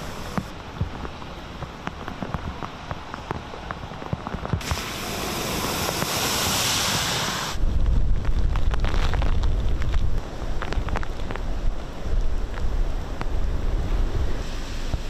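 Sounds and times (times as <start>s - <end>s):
car tyres spraying through water: 0.0s - 11.7s, 14.0s - 15.0s
gusty wind buffeting microphone: 0.0s - 15.0s
heavy rain pattering: 0.0s - 15.0s.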